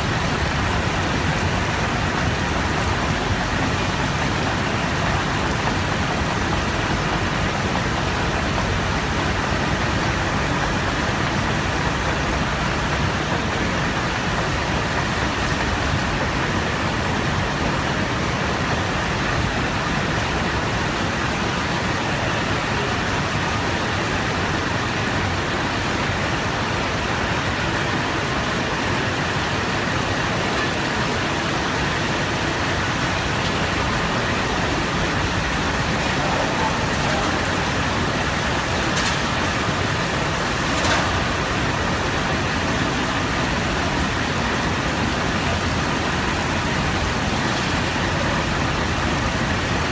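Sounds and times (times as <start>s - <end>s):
water flowing: 0.0s - 49.9s.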